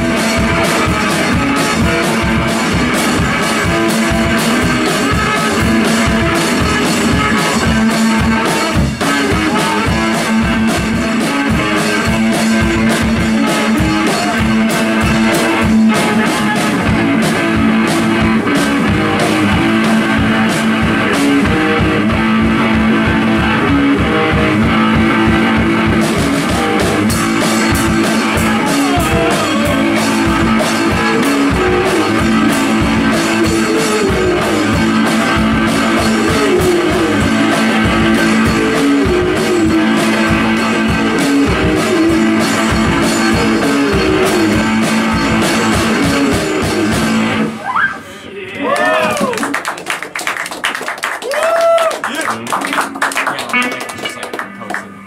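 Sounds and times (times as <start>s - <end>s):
drum kit hit hard: 0.0s - 47.6s
electric guitar: 0.0s - 55.0s.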